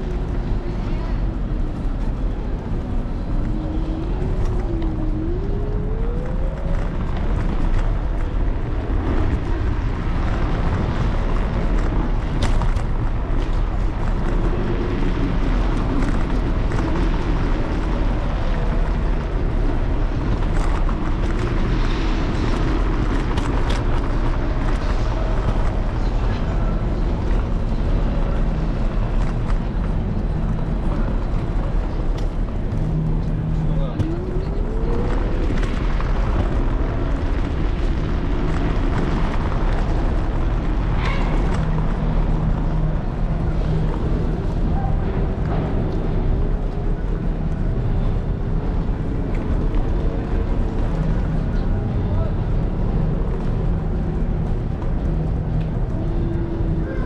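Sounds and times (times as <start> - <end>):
city traffic: 0.0 - 57.0
wind and road rumble: 0.0 - 57.0.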